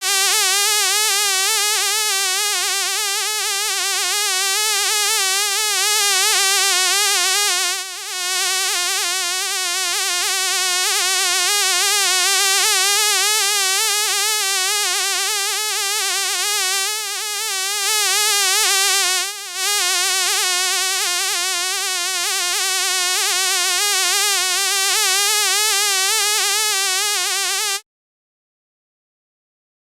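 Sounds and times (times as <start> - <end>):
fly buzzing: 0.0 - 27.8.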